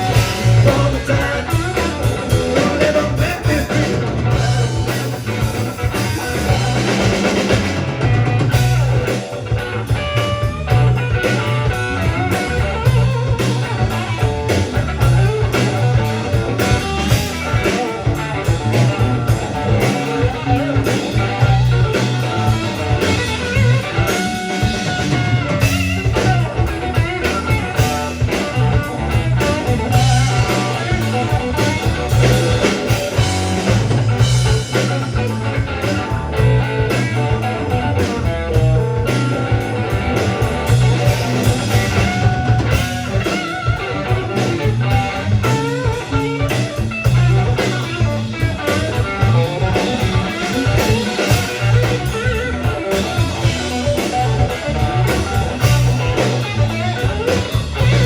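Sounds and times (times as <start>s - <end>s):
drum kit: 0.0s - 58.0s
electric guitar playing: 0.0s - 58.0s
steady bass line: 0.0s - 58.0s.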